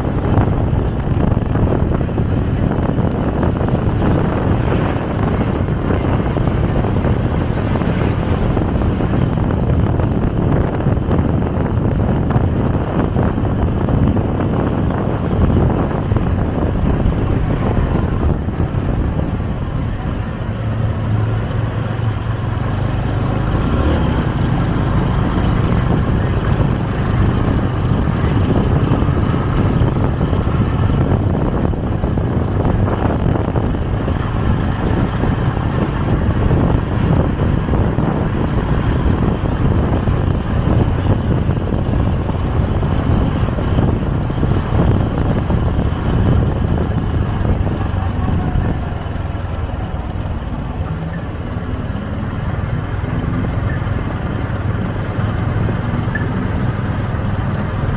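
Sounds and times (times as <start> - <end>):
motorcycle engine running: 0.0 - 57.9
wind rushing over microphone: 0.0 - 57.9.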